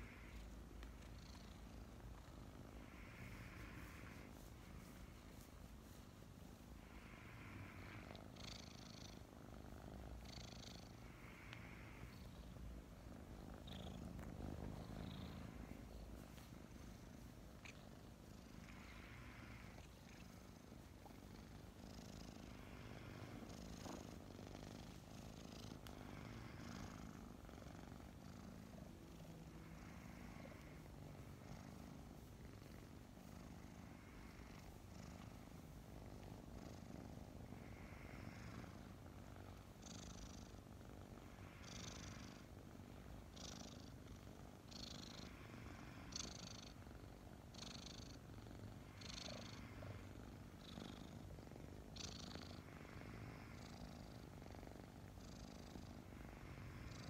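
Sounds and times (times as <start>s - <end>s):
kittens purring: 0.0s - 57.0s
soft breathy noises: 0.0s - 57.0s.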